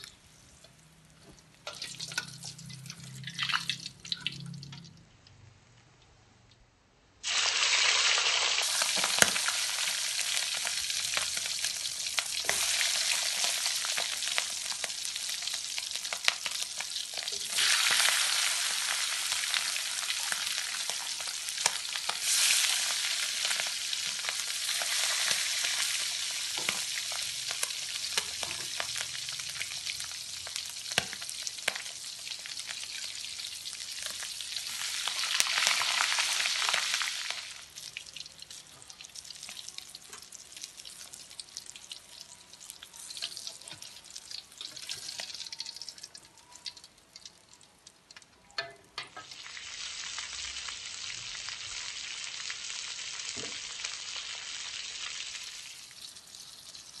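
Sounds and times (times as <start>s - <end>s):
oil sizzling in a wok: 0.0s - 4.8s, 7.2s - 57.0s.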